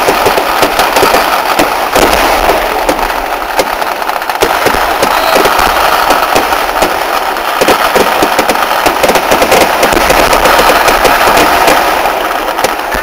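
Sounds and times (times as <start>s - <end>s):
firecracker blasts rattling: 0.0s - 13.0s.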